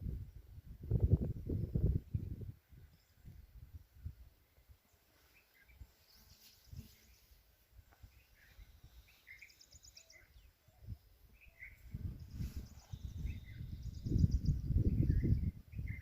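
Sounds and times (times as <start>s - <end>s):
birds chirping: 1.6s - 16.0s.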